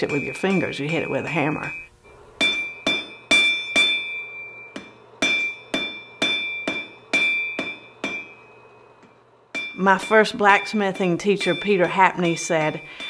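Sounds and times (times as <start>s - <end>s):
anvil ringing: 0.0s - 13.0s
hammer striking hot steel: 0.0s - 13.0s.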